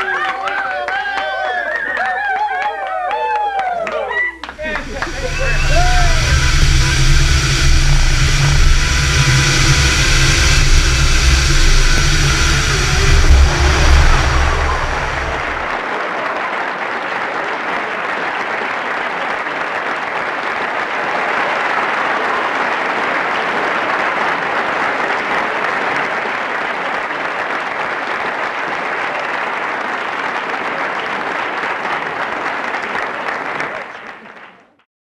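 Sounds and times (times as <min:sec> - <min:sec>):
crowd applauding: 0:00.0 - 0:34.8.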